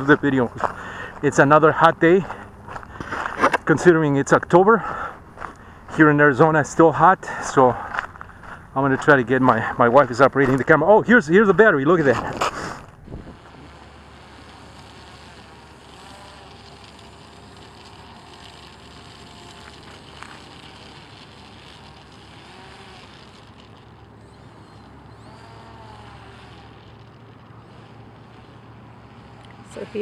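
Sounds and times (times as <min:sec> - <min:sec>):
electric motor running: 0:00.0 - 0:30.0.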